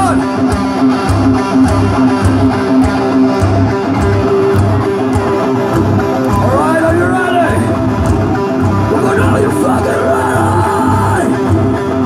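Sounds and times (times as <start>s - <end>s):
heavy metal band playing live: 0.0s - 12.0s.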